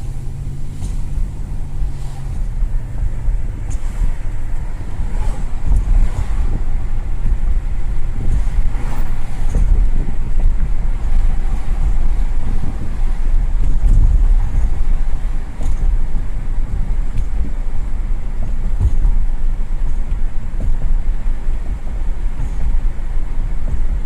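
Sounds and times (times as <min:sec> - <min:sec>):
road and wind rumble: 0:00.0 - 0:24.0.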